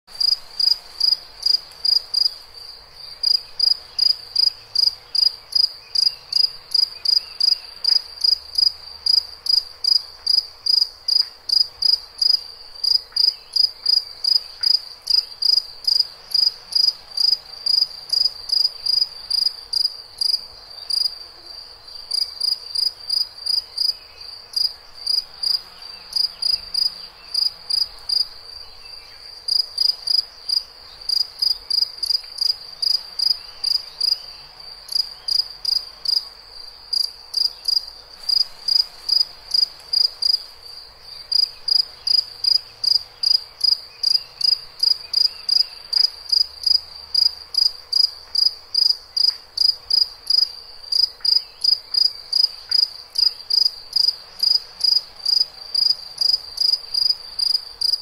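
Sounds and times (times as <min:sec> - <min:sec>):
cricket chirping: 0:00.1 - 0:58.0.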